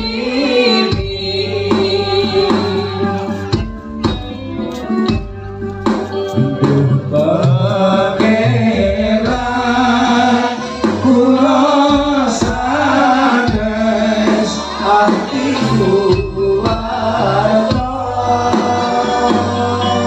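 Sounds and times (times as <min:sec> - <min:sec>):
instrumental backing: 0:00.0 - 0:20.0
person singing devotional melody: 0:00.0 - 0:20.0.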